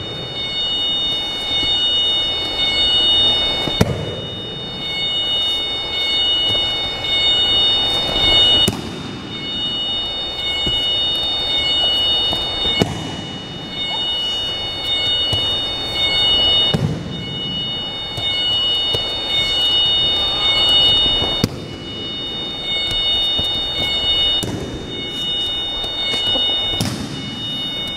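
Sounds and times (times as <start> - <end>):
thin high whine: 0.0 - 27.9.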